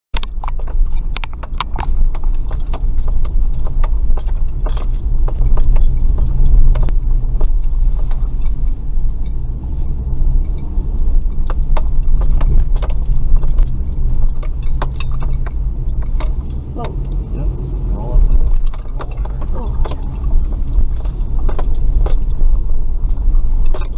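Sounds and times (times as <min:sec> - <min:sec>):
vehicle knocks and rattles: 0:00.2 - 0:17.3, 0:18.1 - 0:23.9
truck engine rumble: 0:00.2 - 0:23.9.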